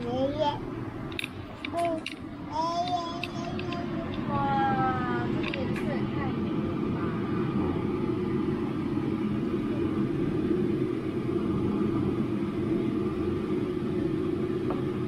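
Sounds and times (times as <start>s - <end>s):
low machine rumble: 0.0s - 15.0s.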